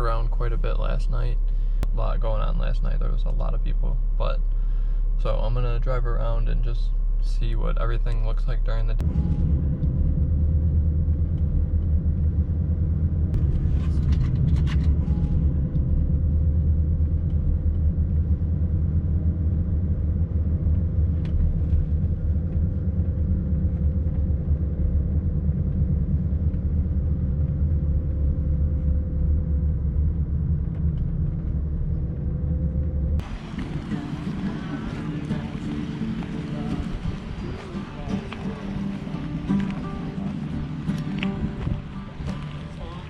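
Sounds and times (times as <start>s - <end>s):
car engine and road rumble: 0.0s - 43.0s
faint steady hum: 0.0s - 43.0s.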